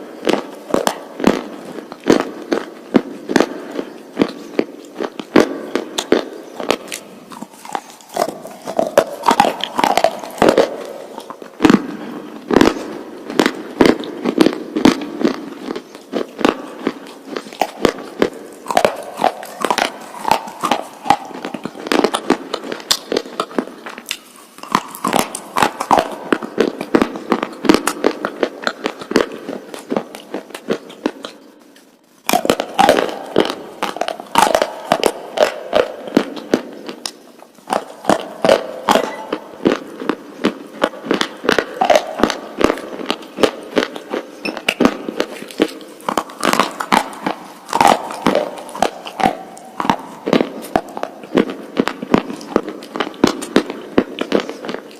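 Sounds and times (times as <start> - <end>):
person chewing something crunchy: 0.0 - 54.9.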